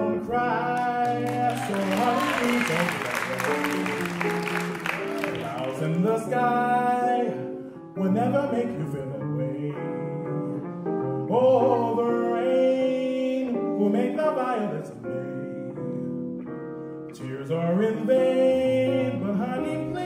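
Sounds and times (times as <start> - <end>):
electric guitar accompaniment: 0.0 - 20.0.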